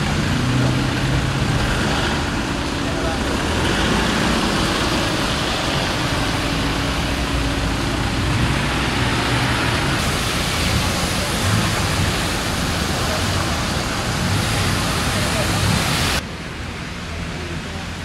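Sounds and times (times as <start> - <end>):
car engine hum: 0.0 - 16.6
tyres splashing through floodwater: 0.0 - 18.0.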